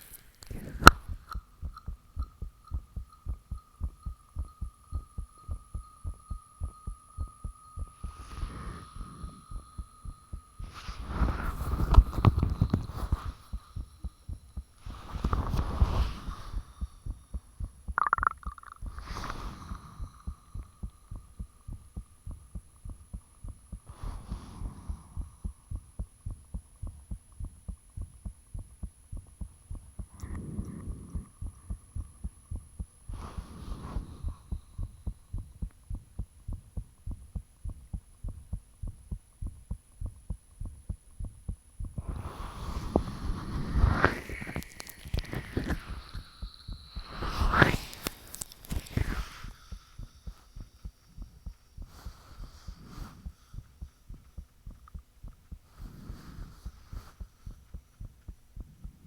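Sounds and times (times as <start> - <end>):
heartbeat thumps: 0.5 - 44.0, 49.0 - 59.0.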